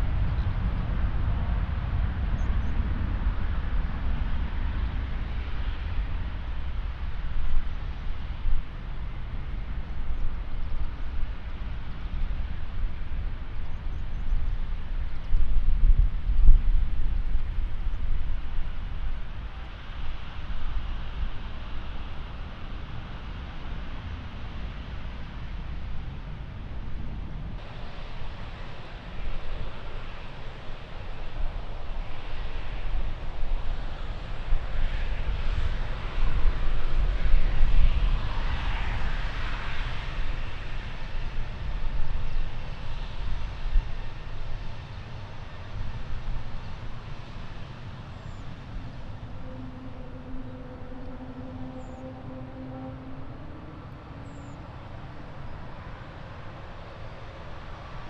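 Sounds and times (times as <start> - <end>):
faint steady hum: 0.0 - 58.0
jet airliner passing: 0.0 - 58.0
wind rumble on microphone: 0.0 - 58.0.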